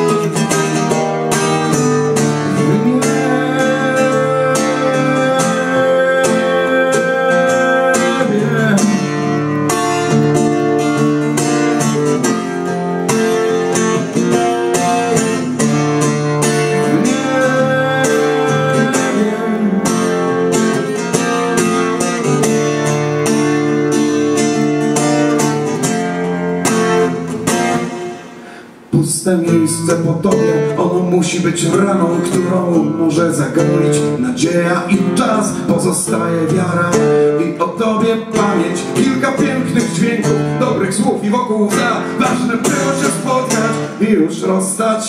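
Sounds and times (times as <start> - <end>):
acoustic guitar chords: 0.0 - 45.0.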